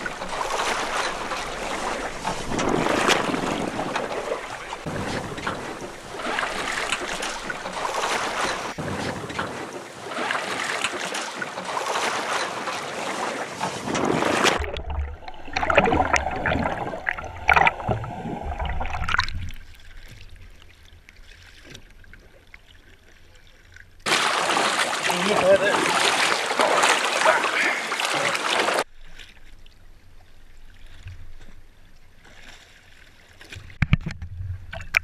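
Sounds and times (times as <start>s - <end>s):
water sloshing against boat hull: 0.0s - 35.0s.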